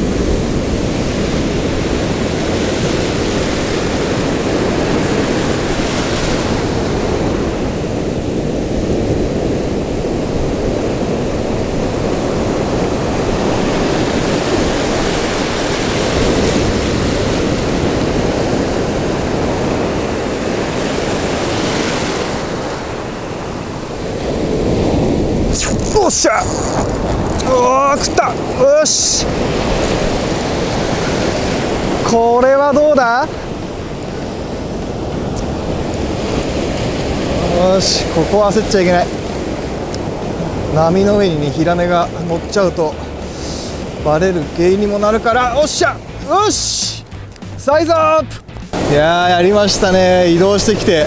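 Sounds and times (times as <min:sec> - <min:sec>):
ocean surf washing over sand: 0:00.0 - 0:51.0.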